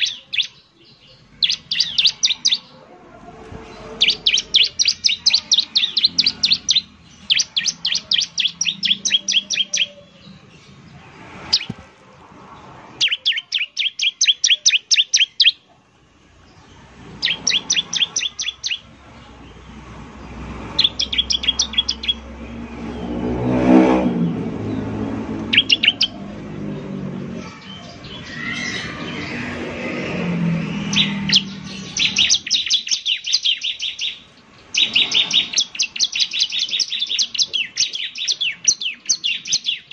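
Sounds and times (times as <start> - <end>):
passing vehicle engine: 1.1 - 13.2, 15.7 - 32.9, 34.0 - 38.6.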